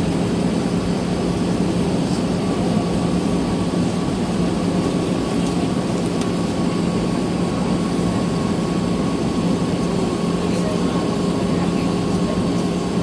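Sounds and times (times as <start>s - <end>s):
jet engine cabin noise: 0.0s - 13.0s.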